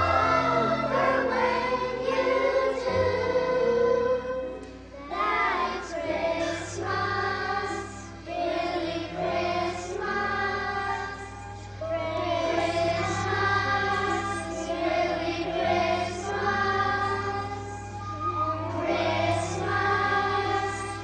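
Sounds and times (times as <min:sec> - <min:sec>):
children's choir singing: 0:00.0 - 0:21.0
sustained instrumental accompaniment: 0:00.0 - 0:21.0.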